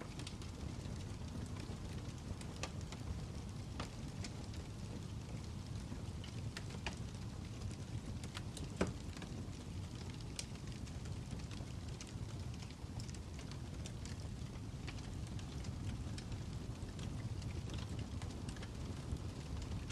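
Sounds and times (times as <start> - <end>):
fire crackling: 0.0 - 19.9.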